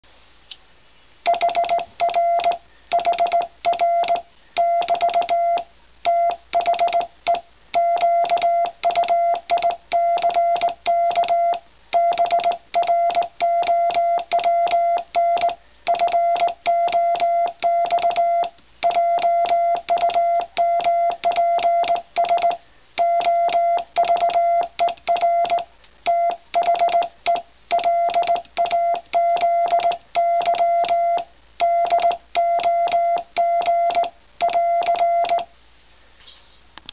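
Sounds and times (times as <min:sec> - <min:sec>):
telegraph key clicks: 0:01.3 - 0:25.7, 0:26.3 - 0:35.5
morse code beeps: 0:01.3 - 0:35.5.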